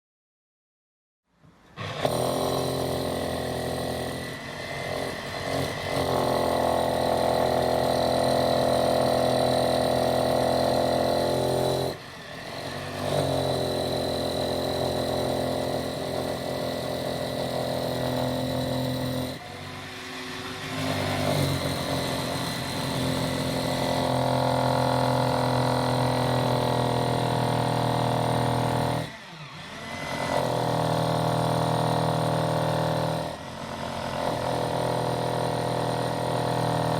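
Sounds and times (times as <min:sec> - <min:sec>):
electric drill boring into concrete: 0:01.7 - 0:36.9.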